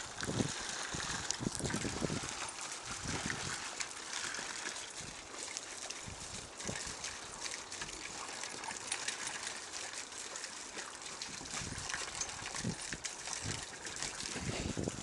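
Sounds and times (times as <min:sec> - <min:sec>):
stream of water pouring: 0:00.0 - 0:15.0
water splashing in plastic pool: 0:00.0 - 0:15.0.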